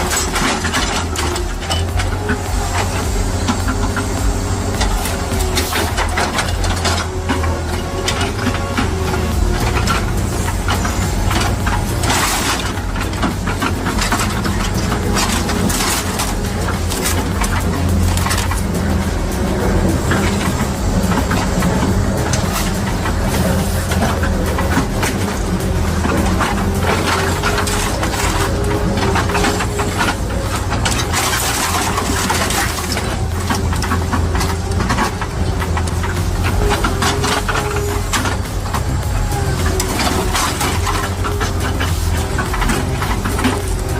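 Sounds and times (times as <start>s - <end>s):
cracking and clattering knocks: 0.0s - 43.9s
heavy machine engine running: 0.0s - 43.9s.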